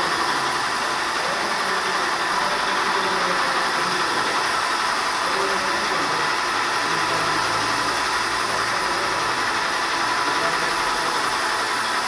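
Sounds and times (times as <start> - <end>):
paint sprayer hissing: 0.0 - 12.0.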